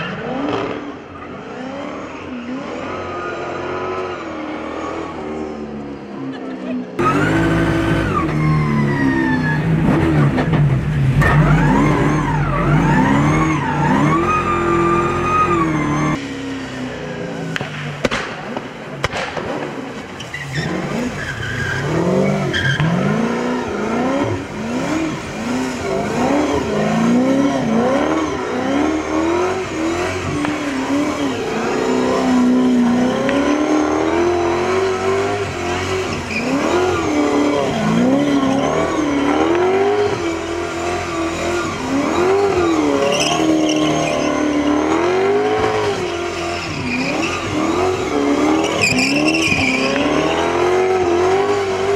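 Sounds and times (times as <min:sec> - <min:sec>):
car engine revving: 0:00.0 - 0:51.9
tyres skidding on wet asphalt: 0:07.0 - 0:51.9.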